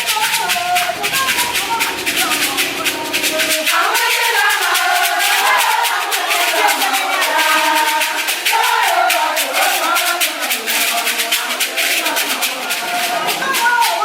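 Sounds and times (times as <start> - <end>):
person singing: 0.0 - 14.0
shaker rhythm: 0.0 - 14.0.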